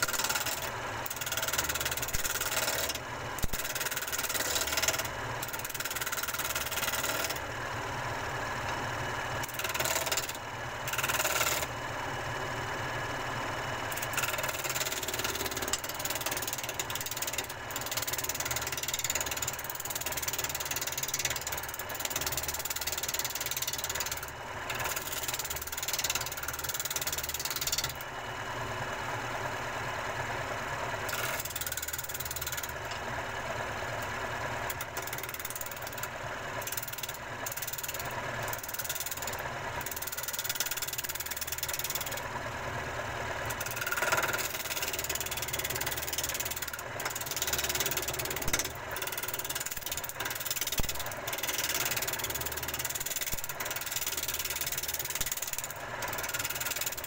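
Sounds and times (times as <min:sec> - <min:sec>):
woodworking machine motor hum: 0:00.0 - 0:57.0.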